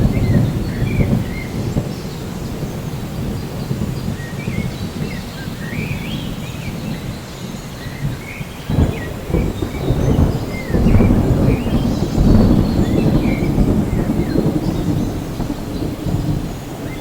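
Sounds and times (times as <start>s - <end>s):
birds chirping: 0.0s - 17.0s
rain: 0.0s - 17.0s
thunder rumbling: 0.0s - 17.0s.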